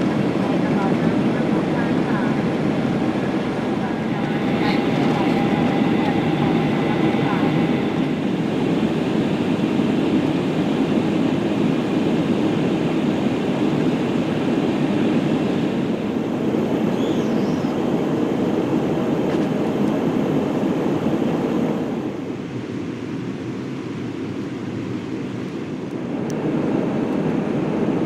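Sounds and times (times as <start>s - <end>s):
airliner cabin engine rush: 0.0s - 28.0s.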